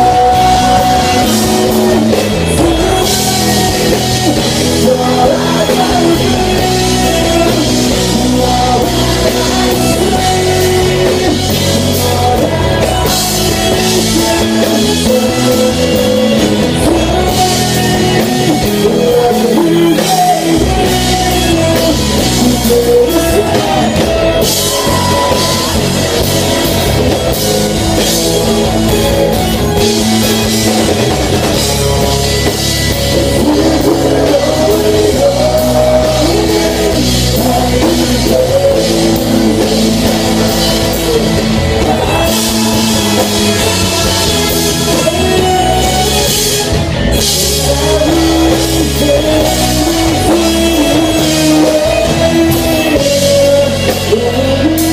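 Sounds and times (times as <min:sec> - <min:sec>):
live rock band playing: 0:00.0 - 0:54.9
person singing: 0:00.0 - 0:54.9.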